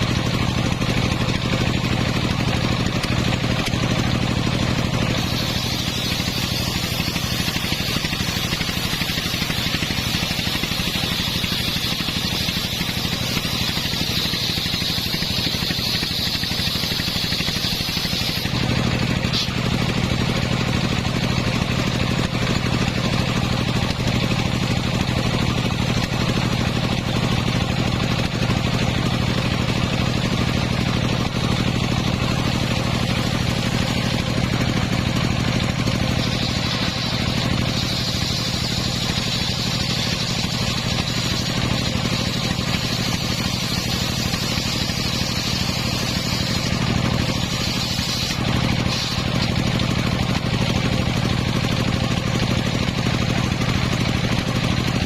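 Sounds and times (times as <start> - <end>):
saw blade whine cutting wood: 0.0 - 55.0
sawmill engine running: 0.0 - 55.0.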